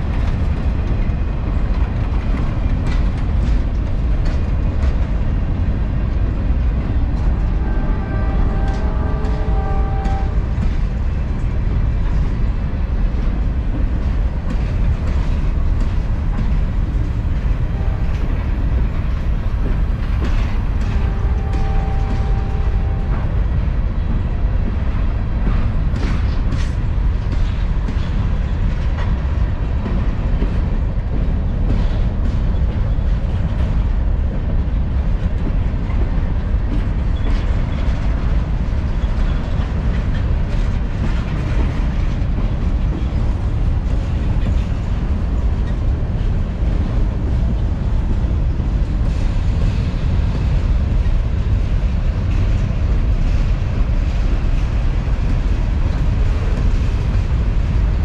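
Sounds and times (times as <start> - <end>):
freight train cars rumbling: 0.0 - 58.0.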